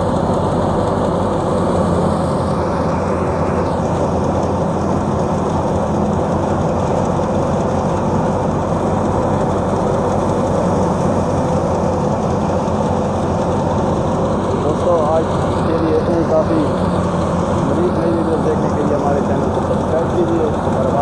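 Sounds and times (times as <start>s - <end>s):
thresher machine drone: 0.0s - 21.0s.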